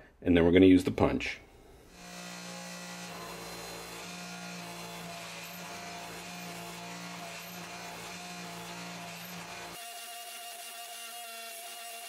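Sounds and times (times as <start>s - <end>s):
electric motor and pump humming: 1.9s - 12.0s.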